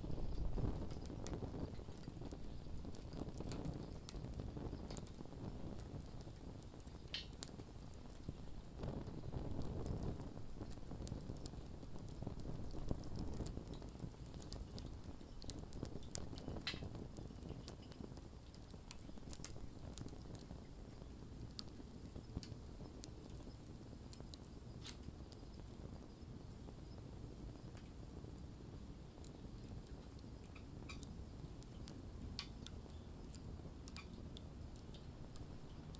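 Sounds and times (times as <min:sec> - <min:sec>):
low rumble of flames: 0:00.0 - 0:35.9
wood fire crackling: 0:00.0 - 0:35.9.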